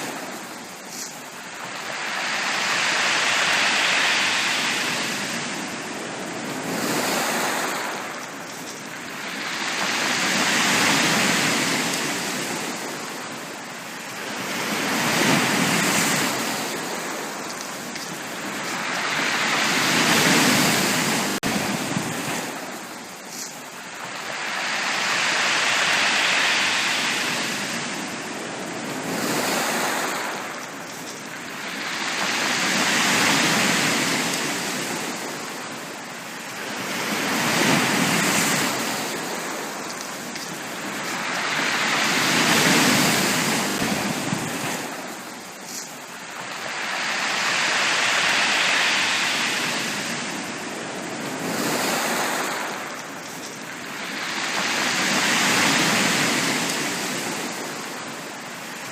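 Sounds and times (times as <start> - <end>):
sea waves washing onto beach: 0.0 - 58.9.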